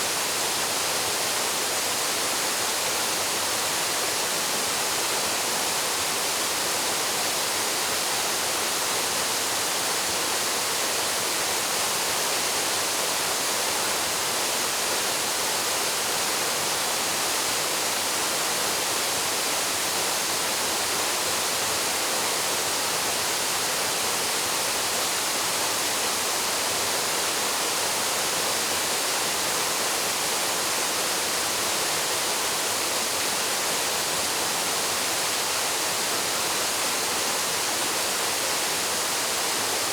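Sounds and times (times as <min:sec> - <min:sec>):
waterfall rushing into a pool: 0:00.0 - 0:39.9.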